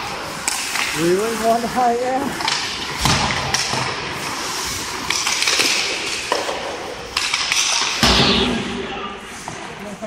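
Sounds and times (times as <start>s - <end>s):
skate blades scraping on ice: 0.0s - 8.4s, 9.0s - 10.0s
hockey sticks clacking on puck: 0.0s - 10.0s.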